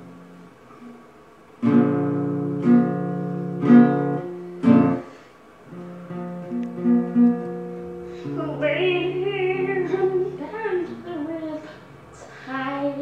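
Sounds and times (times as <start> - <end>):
acoustic guitar strumming chords: 0.0 - 13.0
picked guitar notes: 1.6 - 12.2.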